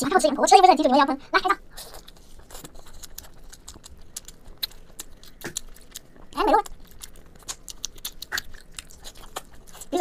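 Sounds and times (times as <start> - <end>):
wet eating sounds: 1.7 - 10.0.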